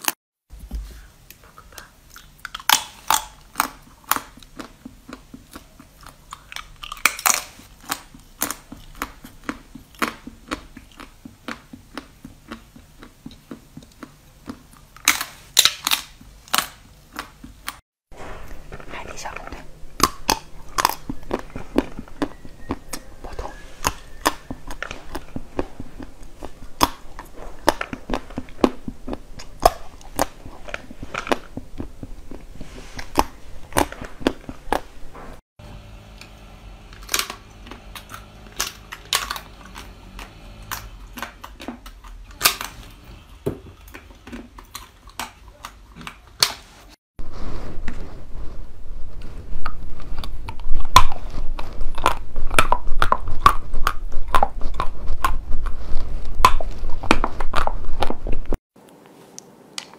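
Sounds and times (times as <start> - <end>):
chocolate crunching while chewed: 1.2 - 17.8, 18.4 - 35.2, 36.2 - 46.6, 49.6 - 58.6.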